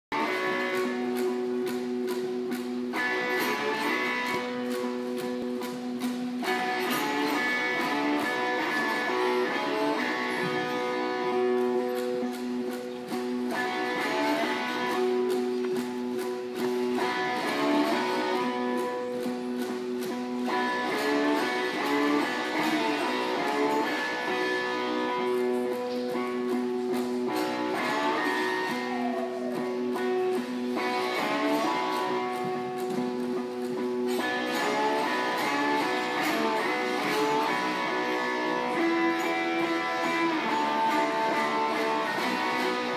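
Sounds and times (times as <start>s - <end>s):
cigar box guitars and guitar strumming blues: 0.0s - 42.9s
steady guitar drone: 0.0s - 42.9s.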